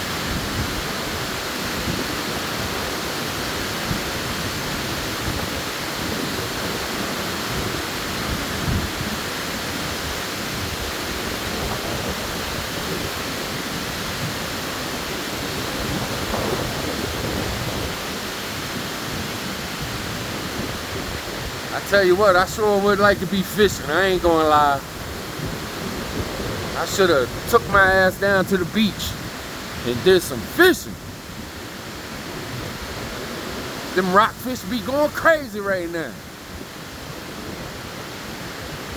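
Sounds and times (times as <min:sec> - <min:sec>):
wind buffeting microphone: 0:00.0 - 0:22.4, 0:23.9 - 0:34.0
strong wind through trees: 0:00.0 - 0:38.9.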